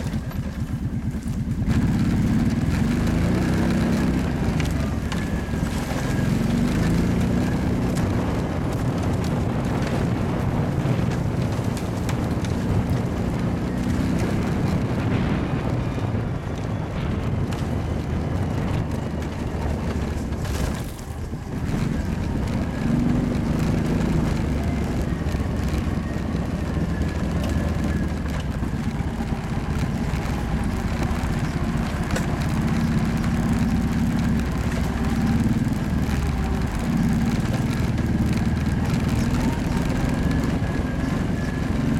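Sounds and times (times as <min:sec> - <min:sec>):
quad bike engine revving: 0:00.0 - 0:41.9
wind on microphone: 0:00.0 - 0:41.9.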